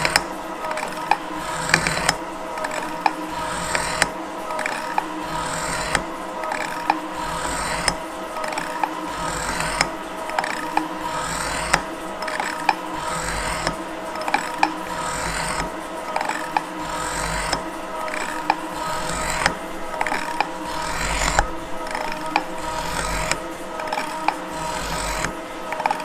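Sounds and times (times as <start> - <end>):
low machine hum: 0.0 - 26.0
metal shaper cutting strokes: 0.0 - 26.0
sharp machine click: 0.0 - 26.0.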